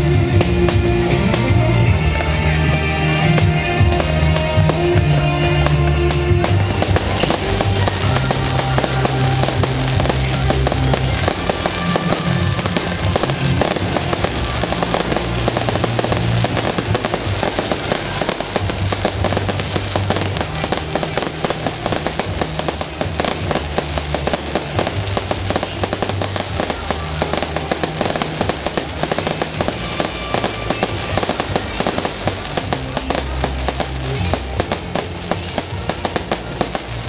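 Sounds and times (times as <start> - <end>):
fireworks crackling: 0.0 - 37.0
music with long low notes: 0.0 - 37.0.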